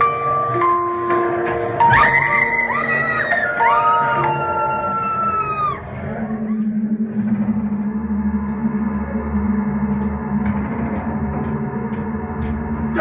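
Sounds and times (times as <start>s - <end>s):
resonant low drone: 0.8s - 13.0s.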